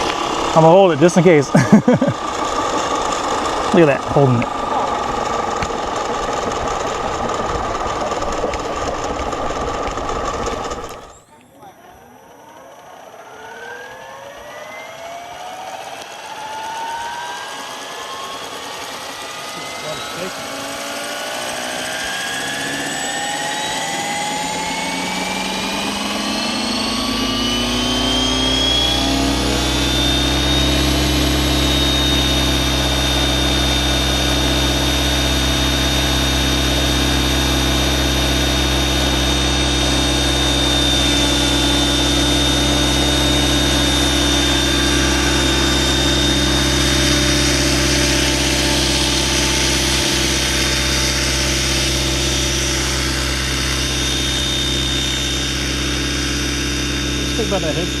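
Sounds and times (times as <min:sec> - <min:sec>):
electric motor and gear whine: 0:00.0 - 0:58.0
low rotor drone: 0:00.0 - 0:58.0.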